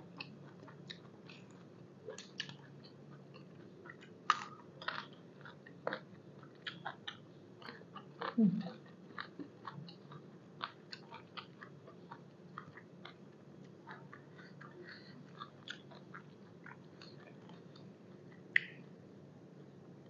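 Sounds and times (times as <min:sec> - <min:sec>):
person chewing: 0:00.1 - 0:18.8.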